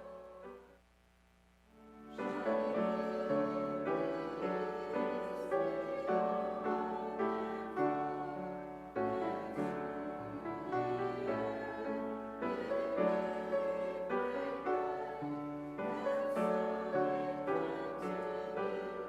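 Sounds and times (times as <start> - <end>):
piano playing sustained chords: 1.8 - 19.0.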